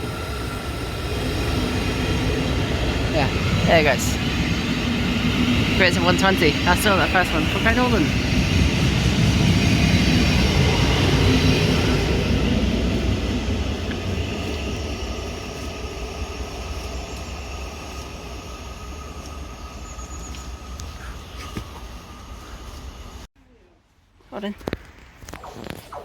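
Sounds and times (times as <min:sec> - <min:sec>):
electric train running past: 0:00.0 - 0:23.3.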